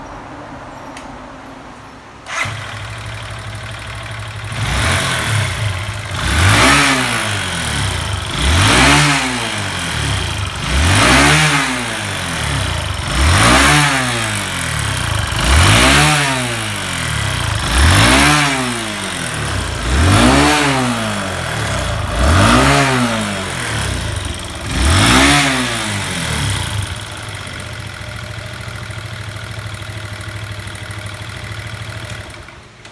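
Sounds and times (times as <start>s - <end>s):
motorcycle engine idling and revving: 2.2s - 32.9s.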